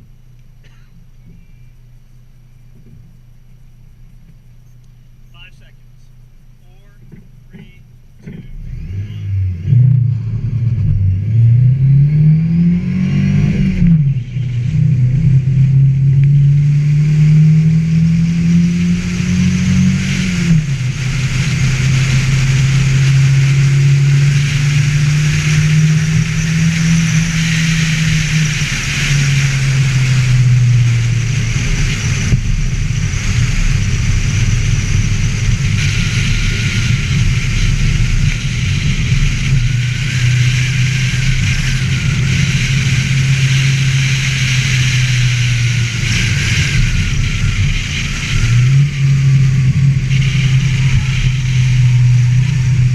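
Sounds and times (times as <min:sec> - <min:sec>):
car engine accelerating hard: 0:00.0 - 0:52.9.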